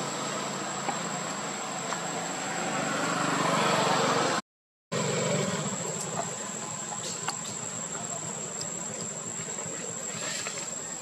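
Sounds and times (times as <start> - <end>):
insects droning: 0.0 - 4.2, 5.0 - 11.0.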